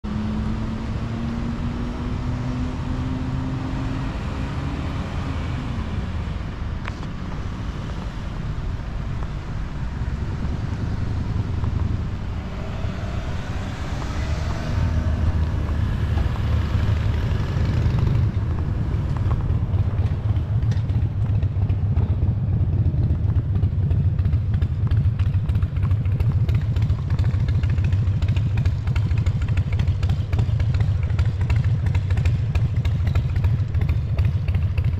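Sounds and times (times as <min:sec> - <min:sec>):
cars passing: 0:00.0 - 0:34.9
loud steady low rumble: 0:05.0 - 0:34.9.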